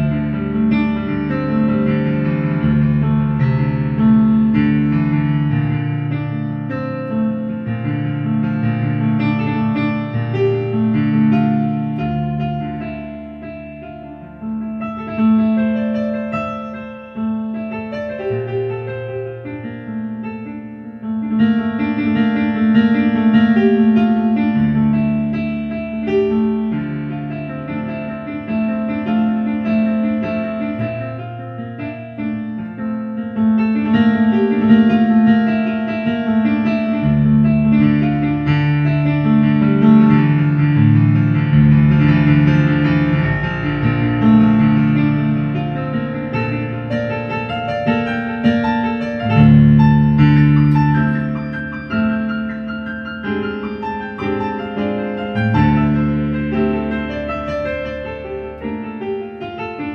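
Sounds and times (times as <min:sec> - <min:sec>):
slow piano chords: 0:00.0 - 0:59.9.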